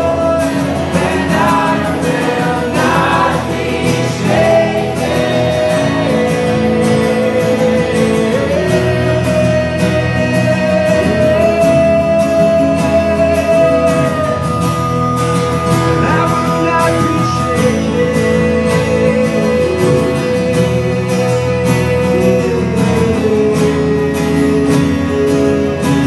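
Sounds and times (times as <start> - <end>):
acoustic guitars strummed: 0.0 - 26.0.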